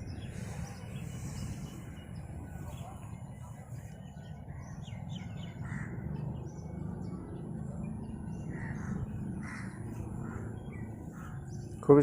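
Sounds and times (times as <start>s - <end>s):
low background rumble: 0.0s - 11.8s
small birds chirping: 0.0s - 12.0s.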